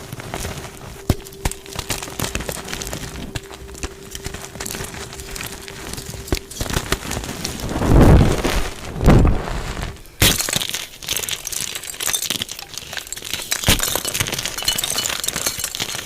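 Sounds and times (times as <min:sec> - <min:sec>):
chalk crumbling and crackling: 0:00.0 - 0:16.0.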